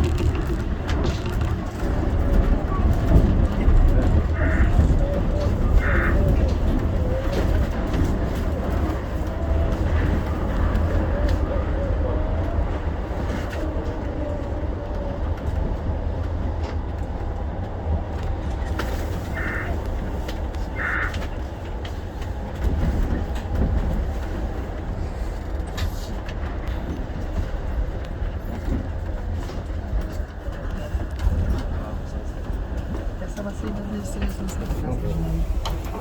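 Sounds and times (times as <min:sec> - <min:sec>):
monorail car rumbling: 0:00.0 - 0:36.0.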